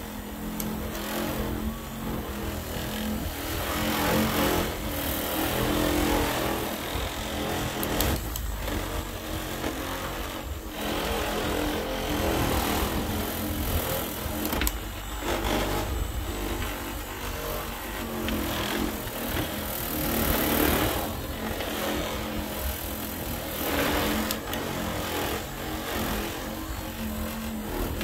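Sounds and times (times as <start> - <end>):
electric buffer motor hum: 0.0 - 28.0.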